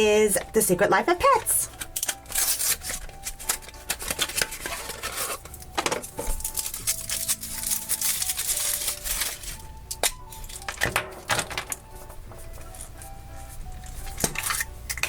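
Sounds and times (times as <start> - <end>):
faint background music: 0.0 - 15.0
foil wrapper crinkling and tearing: 1.2 - 15.0.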